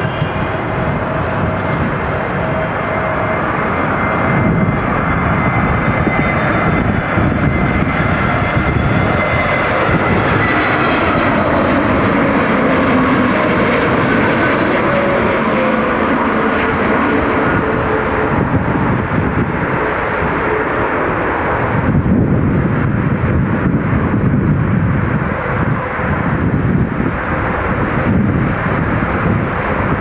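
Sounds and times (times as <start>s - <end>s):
jet engines roaring: 0.0s - 30.0s
wind buffeting microphone: 0.0s - 30.0s.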